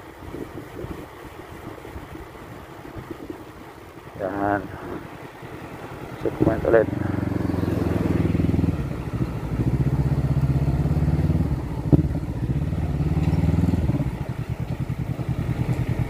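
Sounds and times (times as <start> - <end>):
motorcycle engine running: 2.6 - 16.0.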